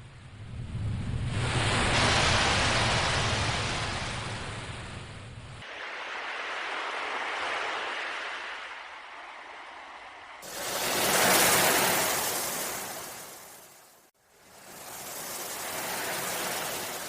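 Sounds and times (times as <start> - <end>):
sea waves surging: 1.3 - 4.9, 5.6 - 17.0.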